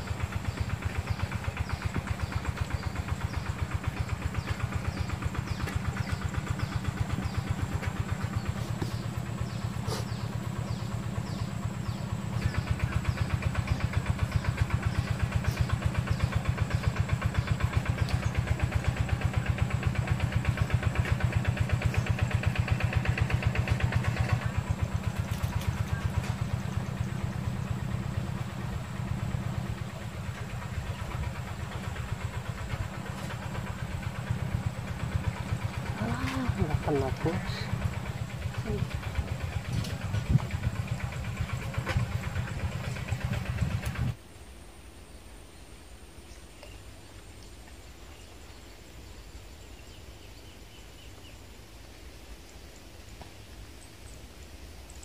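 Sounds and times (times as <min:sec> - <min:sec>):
engine throbbing: 0:00.0 - 0:44.2.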